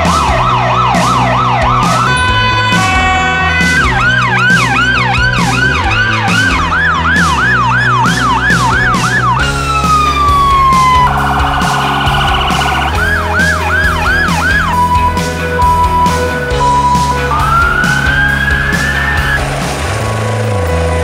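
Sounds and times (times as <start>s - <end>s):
emergency siren: 0.0s - 20.2s
music with a steady beat: 0.0s - 21.0s.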